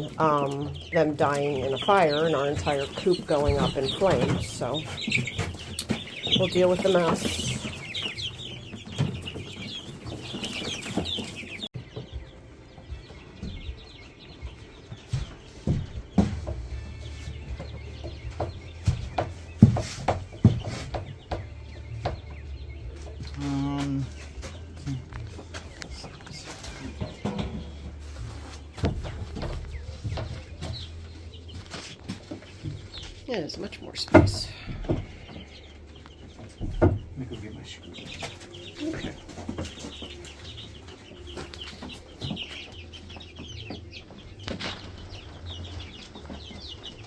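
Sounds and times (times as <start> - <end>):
chicks peeping: 0.0 - 47.0
knocks and bumps: 0.0 - 47.0.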